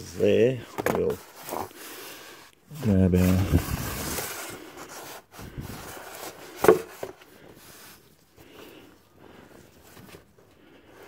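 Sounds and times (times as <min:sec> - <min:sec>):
faint rubbing and shuffling: 0:00.0 - 0:11.0.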